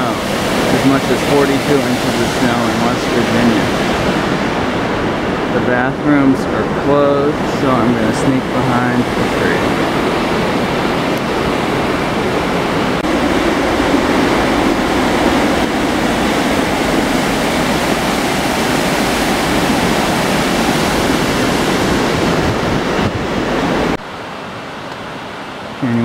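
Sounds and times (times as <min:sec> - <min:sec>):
rushing river water: 0:00.0 - 0:26.0.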